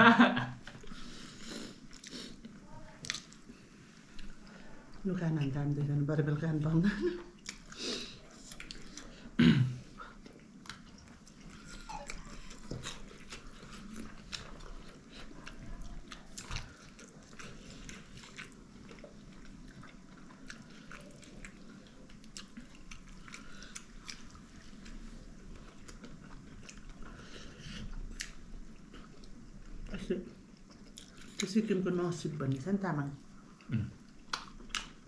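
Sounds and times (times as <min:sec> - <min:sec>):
person chewing food: 0:00.6 - 0:05.0, 0:07.3 - 0:31.5, 0:33.3 - 0:35.0.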